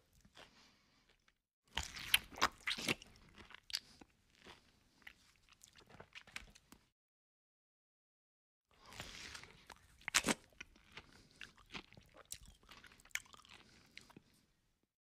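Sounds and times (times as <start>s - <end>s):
crunchy bites and chewing: 0.1s - 6.8s, 8.8s - 14.4s.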